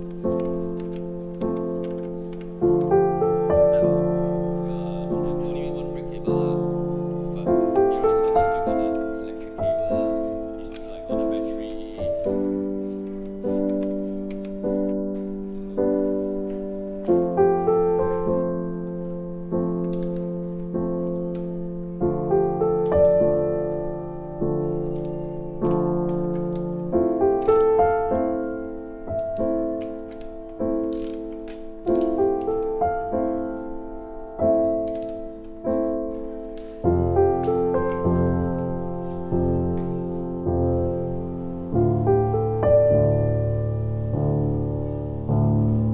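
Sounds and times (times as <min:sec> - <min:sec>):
slow piano music: 0:00.0 - 0:45.9.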